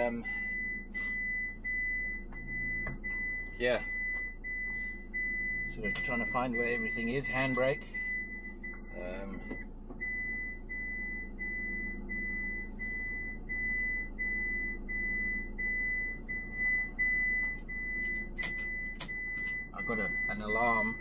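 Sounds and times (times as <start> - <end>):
rapid electronic warning beeps: 0.0 - 21.0.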